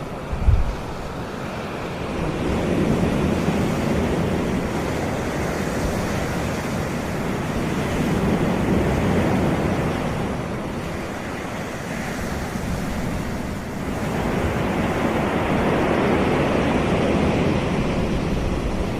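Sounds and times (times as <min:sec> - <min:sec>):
surf breaking on sandy beach: 0:00.0 - 0:18.9.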